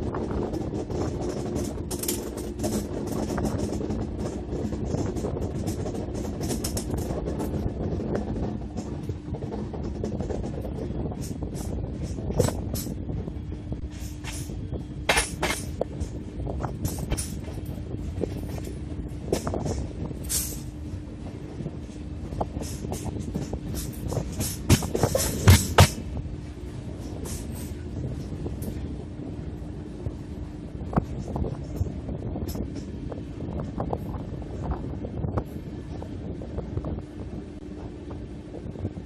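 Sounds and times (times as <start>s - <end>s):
train rattling and clatter: 0.0s - 39.0s
train wheels rumbling on rails: 0.0s - 39.0s.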